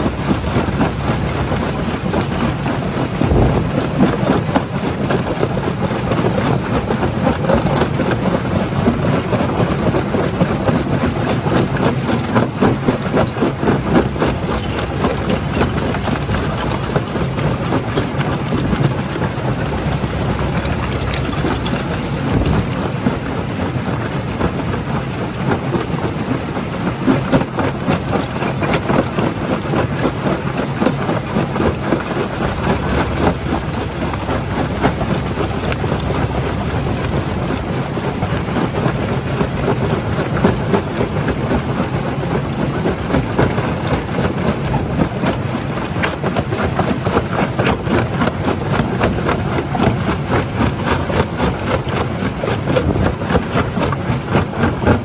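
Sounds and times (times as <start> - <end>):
rock crusher machinery rumbling: 0.0 - 55.0.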